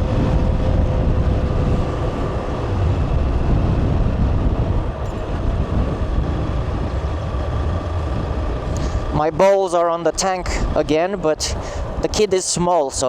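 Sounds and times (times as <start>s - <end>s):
motorcycle running: 0.0s - 13.0s
wind rumbling on microphone: 0.0s - 13.0s.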